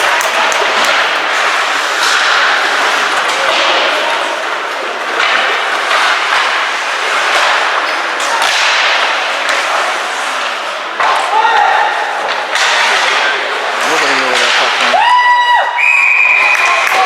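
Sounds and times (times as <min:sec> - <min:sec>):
skate blades scraping on ice: 0:00.0 - 0:15.7.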